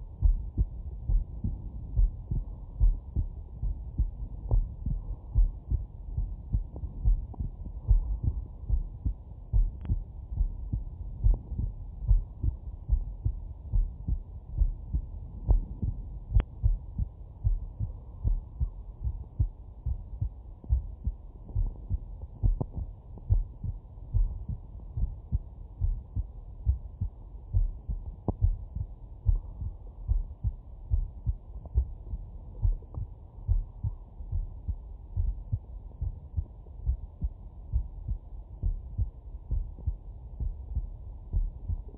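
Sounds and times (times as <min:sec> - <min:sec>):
heartbeat through stethoscope: 0:00.0 - 0:41.9.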